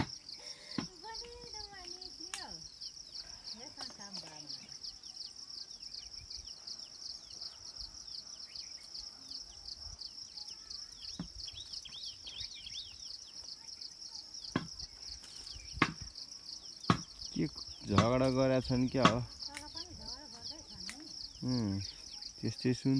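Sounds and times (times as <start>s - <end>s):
high-pitched insect chorus: 0.0s - 22.9s.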